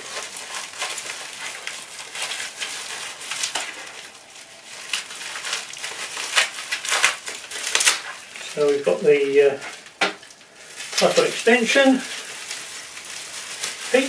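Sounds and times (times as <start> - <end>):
packing wrap crinkling: 0.0 - 14.0.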